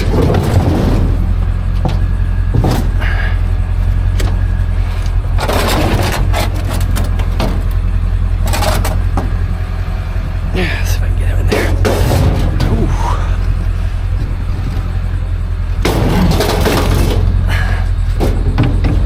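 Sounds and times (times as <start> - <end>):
scrap metal knocking and scraping: 0.0 - 19.0
vehicle engine idling: 0.0 - 19.0.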